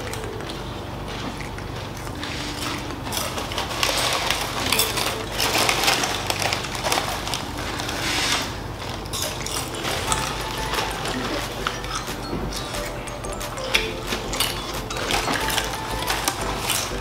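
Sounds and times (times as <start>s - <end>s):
spoons clicking in bowls: 0.0s - 8.0s, 8.9s - 17.0s.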